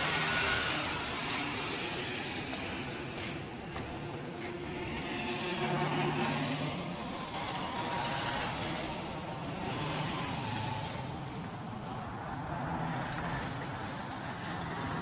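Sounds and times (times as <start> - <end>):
vehicle engines passing by: 0.0 - 15.0.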